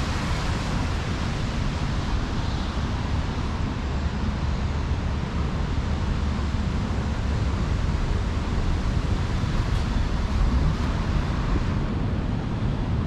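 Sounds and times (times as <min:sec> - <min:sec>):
road traffic noise: 0:00.0 - 0:13.0
wind on microphone: 0:00.0 - 0:13.0.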